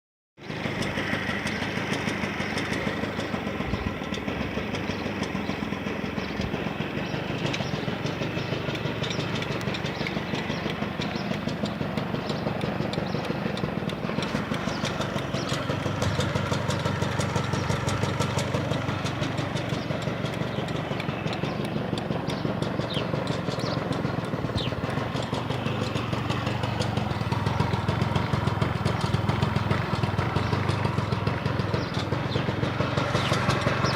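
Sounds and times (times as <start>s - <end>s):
knocking clatter from motor: 0.4s - 33.9s
scooter engine idling: 0.4s - 33.9s.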